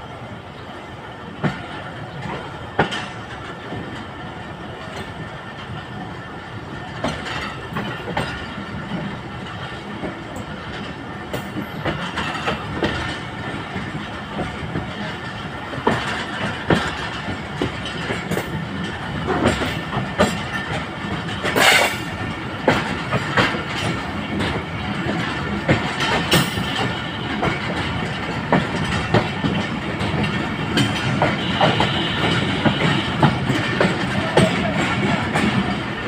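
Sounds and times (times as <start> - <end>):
train rolling rumble: 0.0 - 36.0
train wheels clicking over rail joints: 1.2 - 36.0.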